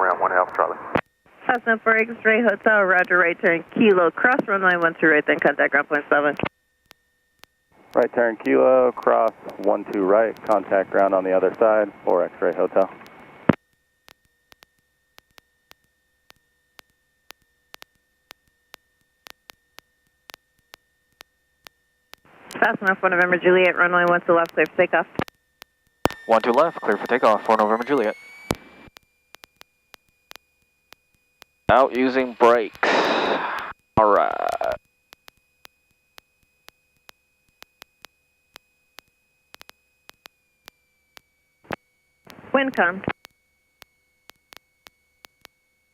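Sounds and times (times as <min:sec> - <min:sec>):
faint steady tone: 0:00.0 - 0:45.9
high electrical whine: 0:00.0 - 0:45.9.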